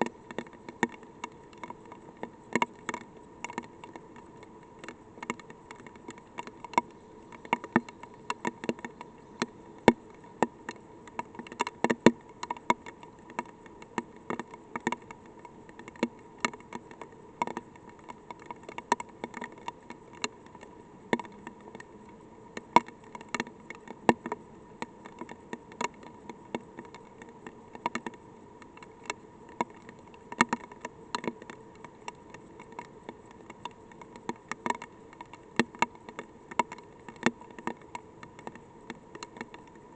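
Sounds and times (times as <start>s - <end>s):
faint steady hum: 0.0s - 39.9s
raindrops ticking on probe: 0.0s - 39.9s.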